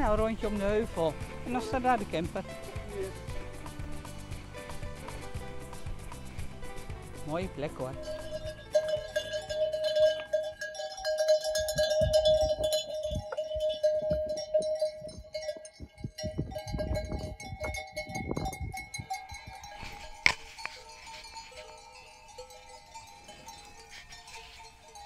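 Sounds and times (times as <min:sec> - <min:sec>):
sheep bells clinking: 0:00.0 - 0:25.0.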